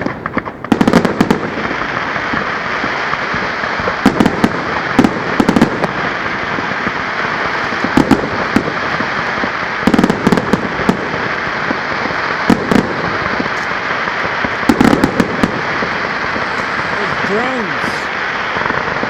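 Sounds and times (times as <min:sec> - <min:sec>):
continuous hissing crackle: 0:00.0 - 0:19.0
fireworks crackling pops: 0:00.0 - 0:19.0.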